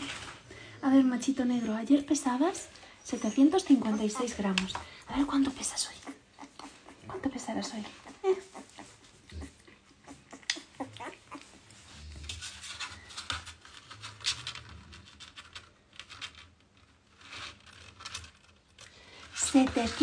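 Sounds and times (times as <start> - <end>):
scratching and rubbing: 2.6 - 20.0.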